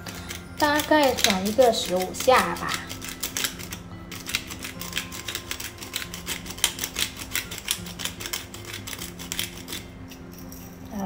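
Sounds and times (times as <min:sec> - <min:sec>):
pepper grinder clicks: 0:00.0 - 0:10.2.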